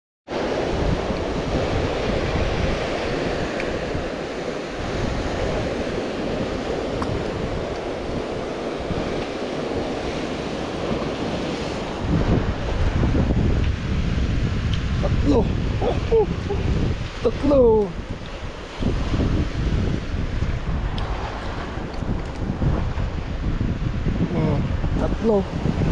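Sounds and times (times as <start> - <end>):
surf breaking over rocks: 0.3 - 23.5
wind buffeting microphone: 0.3 - 25.9.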